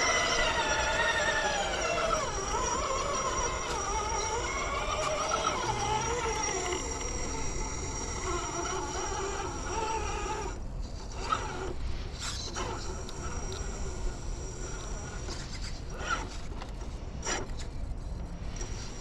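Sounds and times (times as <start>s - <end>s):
electric motor whine: 0.0s - 15.3s.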